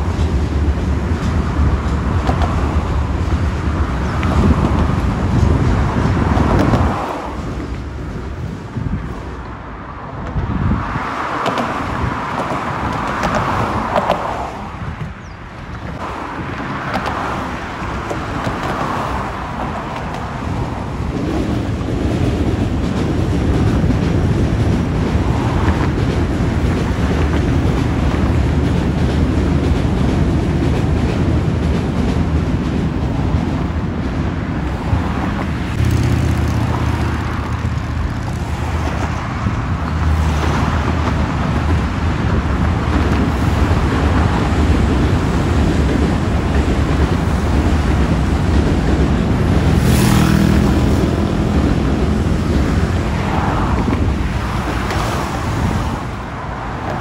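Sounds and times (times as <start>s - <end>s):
road traffic passing: 0.0s - 57.0s
train running on tracks: 0.0s - 57.0s
wind on microphone: 0.0s - 57.0s.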